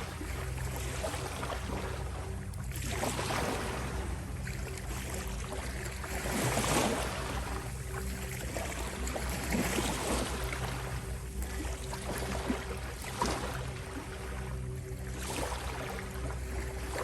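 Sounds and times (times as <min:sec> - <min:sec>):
low droning tones: 0:00.0 - 0:17.0
ocean waves washing in: 0:00.0 - 0:17.0.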